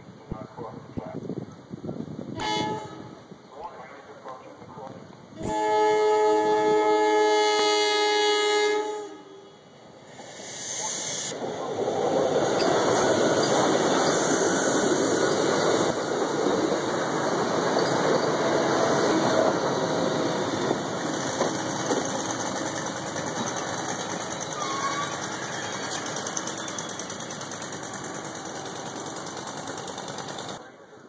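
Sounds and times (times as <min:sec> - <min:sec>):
train rolling past: 0:00.0 - 0:31.0.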